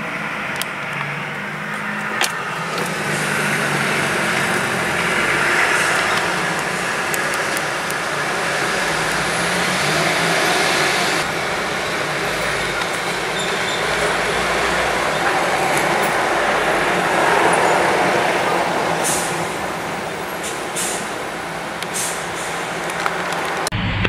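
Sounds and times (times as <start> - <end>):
street traffic noise: 0.0 - 24.0.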